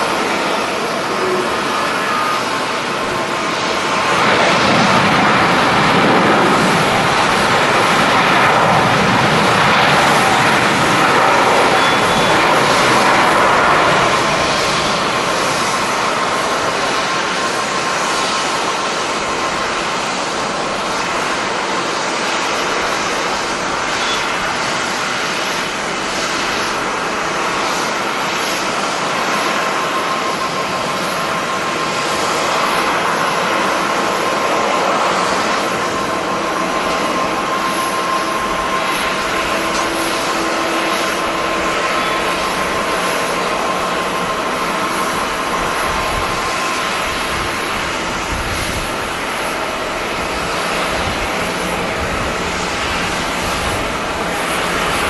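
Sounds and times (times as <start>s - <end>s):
jet engines rushing: 0.0s - 55.0s
thin steady whine: 0.0s - 55.0s.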